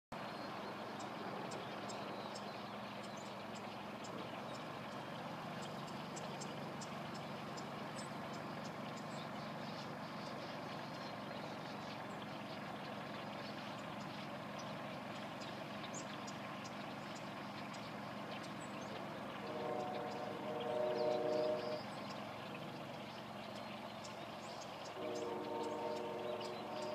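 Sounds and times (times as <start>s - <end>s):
flock of blackbirds calling: 0.2s - 26.9s
low steady hum: 0.2s - 26.9s.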